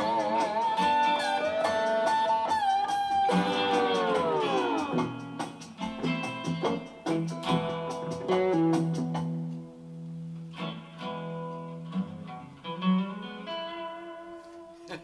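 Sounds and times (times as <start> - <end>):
acoustic blues guitar: 0.0 - 14.9.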